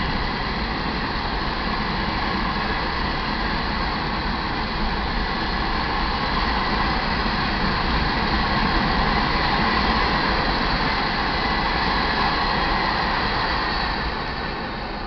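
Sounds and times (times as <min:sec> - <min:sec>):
freight train wheels rolling on rails: 0:00.0 - 0:15.0.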